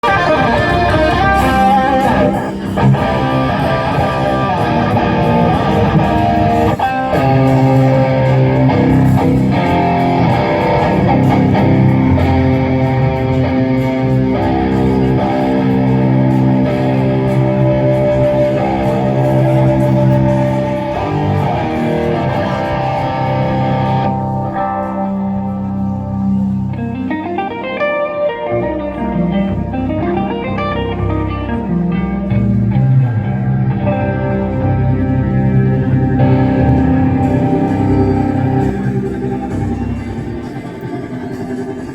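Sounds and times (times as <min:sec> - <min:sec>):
bass: 0:00.0 - 0:41.9
heavy electric guitar riff: 0:00.0 - 0:41.9
separate guitar notes: 0:00.0 - 0:41.9.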